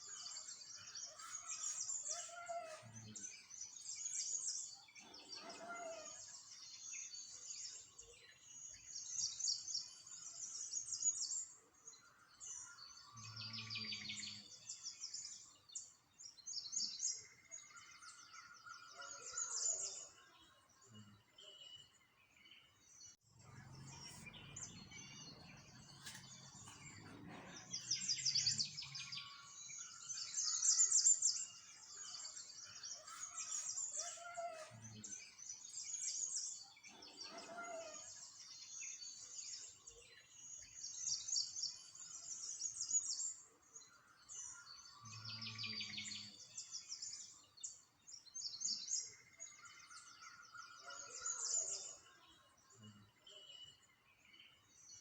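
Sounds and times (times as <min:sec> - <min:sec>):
songbirds trilling: 0:00.0 - 0:55.0.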